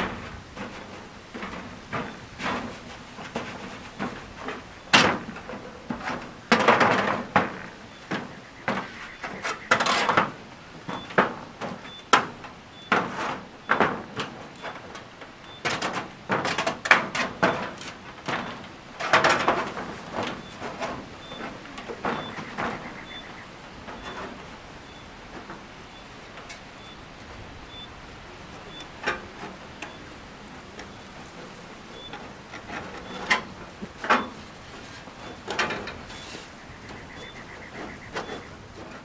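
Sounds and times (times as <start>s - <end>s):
knocks and scrapes on metal roof: 0.0s - 25.8s, 28.5s - 39.0s.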